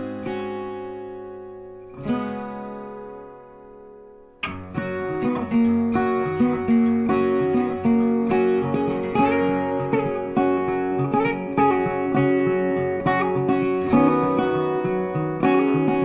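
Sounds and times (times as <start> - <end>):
acoustic guitar picked and strummed: 0.0 - 16.0.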